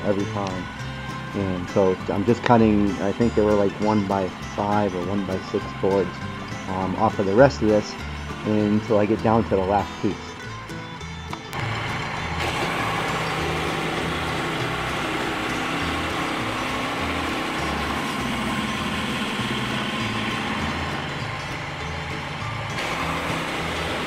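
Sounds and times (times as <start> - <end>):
bandsaw mill sawing wood: 0.0 - 10.4, 11.5 - 24.0
small gasoline engine: 0.0 - 24.0.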